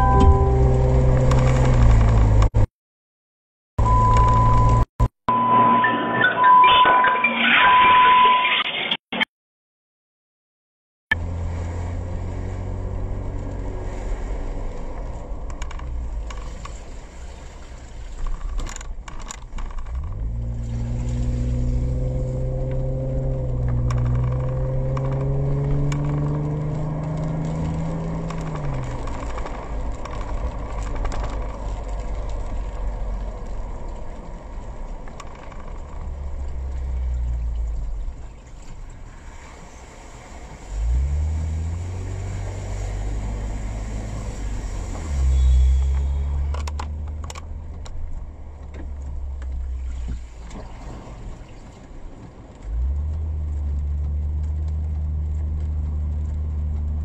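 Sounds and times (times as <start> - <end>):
car engine inside cabin: 0.0 - 2.6, 11.1 - 18.2, 19.4 - 57.0
tyres on wet road: 0.0 - 2.7, 11.1 - 57.0.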